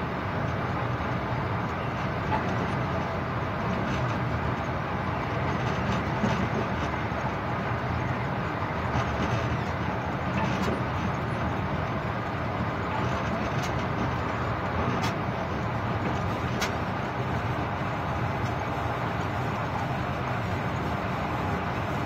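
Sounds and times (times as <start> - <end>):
train running noise in cab: 0.0 - 22.0.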